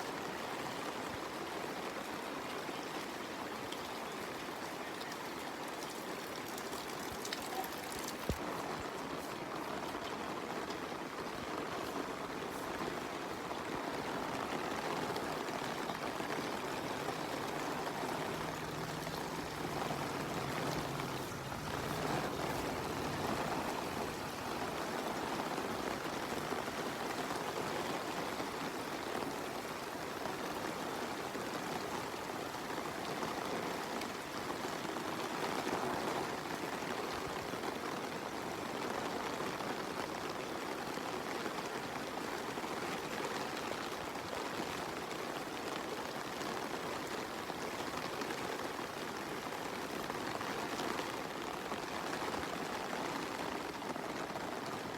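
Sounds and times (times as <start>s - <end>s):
running water rushing: 0.0s - 54.9s
steady rain falling: 0.0s - 54.9s.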